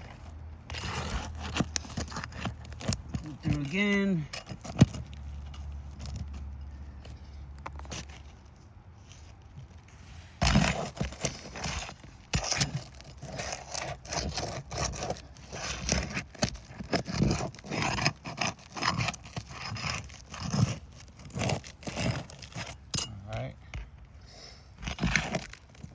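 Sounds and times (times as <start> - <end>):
tool scraping roofing shingles: 0.0 - 24.0, 24.7 - 25.9.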